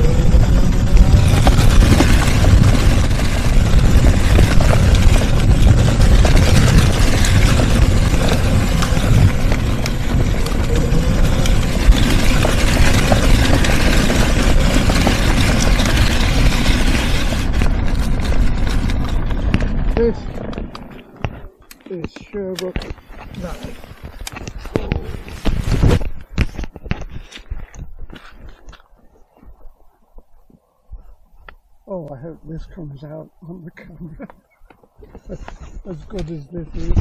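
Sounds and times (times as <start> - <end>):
mobility scooter moving: 0.0 - 30.6
microphone rumbling and rustling: 0.0 - 37.0.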